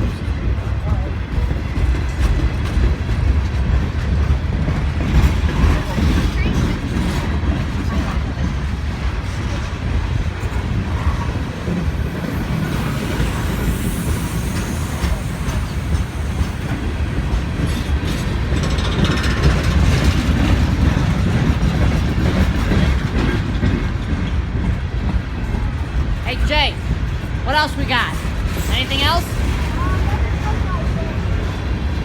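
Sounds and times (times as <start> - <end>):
train wheels on rails: 0.0 - 32.0.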